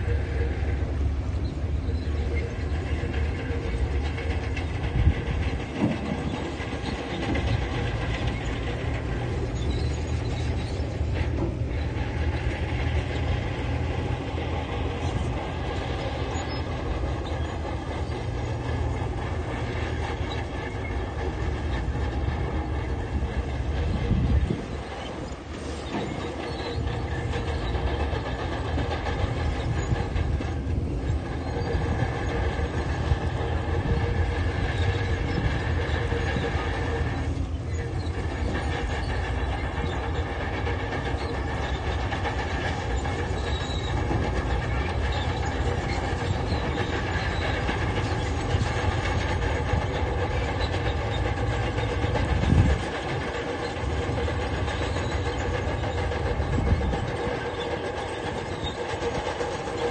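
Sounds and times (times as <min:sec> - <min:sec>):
diesel engine under load: 0:00.0 - 0:59.9
steel crawler tracks clattering: 0:00.0 - 0:59.9.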